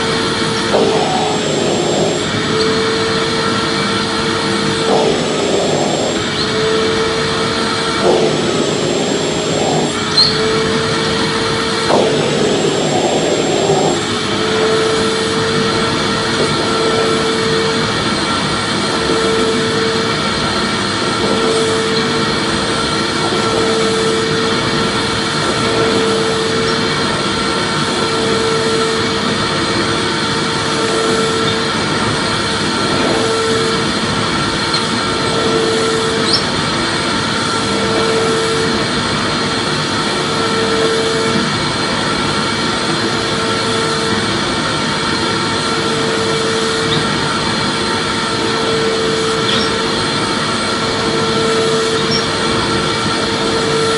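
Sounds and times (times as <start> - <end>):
vacuum cleaner motor whirring: 0.0 - 53.9.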